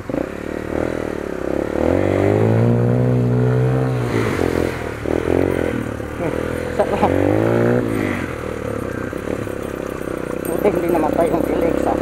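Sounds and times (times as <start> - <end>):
dirt bike engine revving: 0.0 - 12.0
engine clatter: 0.0 - 12.0.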